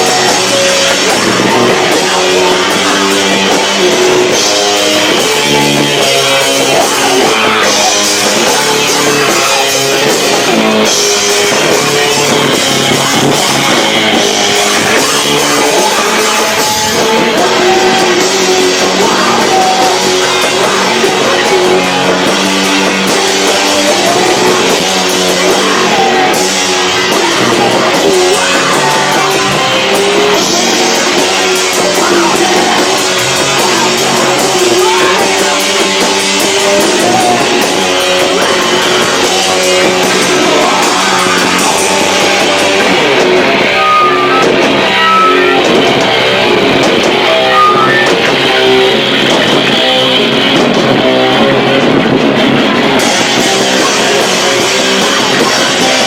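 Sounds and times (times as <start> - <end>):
distorted live rock band: 0.0 - 56.0.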